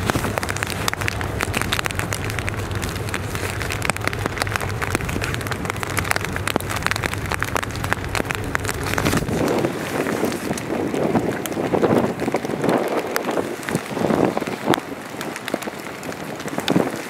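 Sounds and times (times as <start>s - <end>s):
motor boat engine drone: 0.0s - 17.0s
rain pattering: 0.0s - 17.0s.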